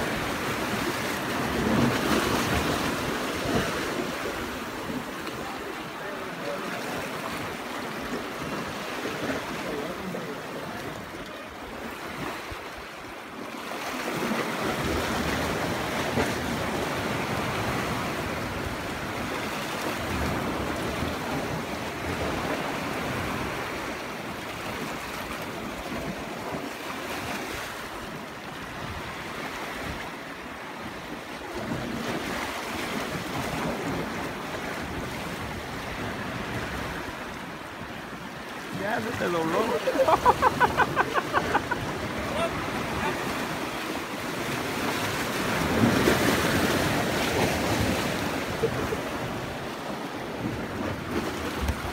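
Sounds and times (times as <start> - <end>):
waves breaking on rocks: 0.0 - 51.9.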